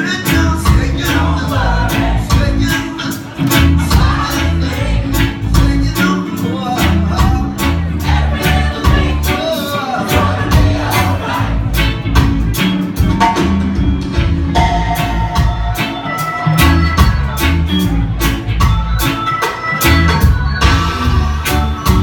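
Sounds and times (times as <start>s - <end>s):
deep bass line: 0.0s - 19.2s, 19.8s - 22.0s
reggae band playing live: 0.0s - 22.0s
steady drum beat: 0.2s - 22.0s.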